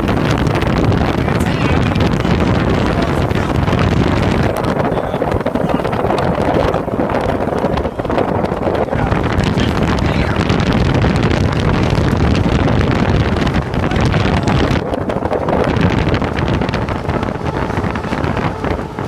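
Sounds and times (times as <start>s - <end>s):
trolley wheels rumbling on rails: 0.0s - 19.0s
wind buffeting microphone: 0.0s - 19.0s.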